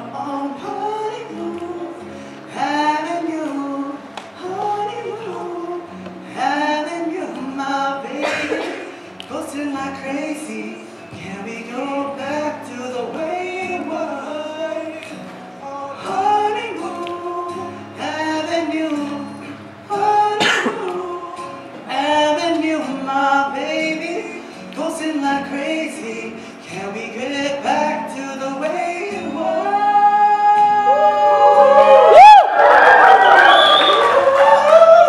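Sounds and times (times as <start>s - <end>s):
young man singing into a microphone: 0.0s - 31.9s.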